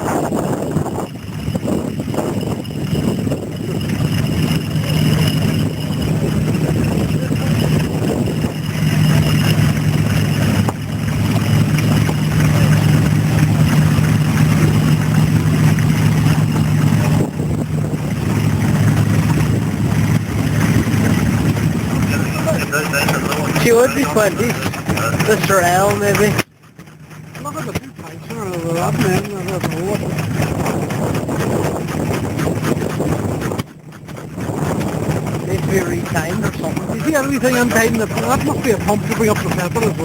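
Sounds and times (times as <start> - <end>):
stationary engines droning: 0.7 - 40.0.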